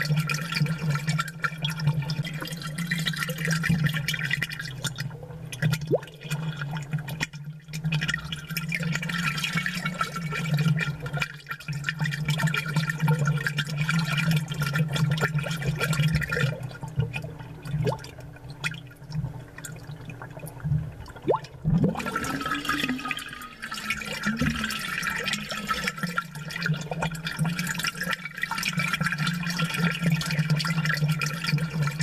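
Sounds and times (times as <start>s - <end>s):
aquarium bubbles and gurgling: 0.0s - 32.0s.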